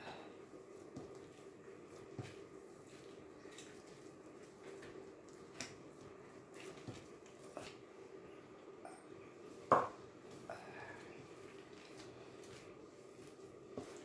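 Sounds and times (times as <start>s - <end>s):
hands kneading dough: 0.0s - 14.0s
low steady hum: 0.0s - 14.0s.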